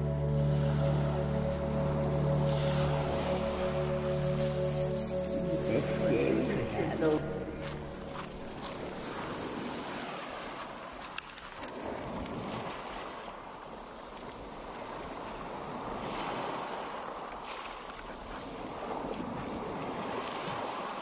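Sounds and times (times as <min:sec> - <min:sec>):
waves washing on a beach: 0:00.0 - 0:21.0
wind: 0:00.0 - 0:21.0.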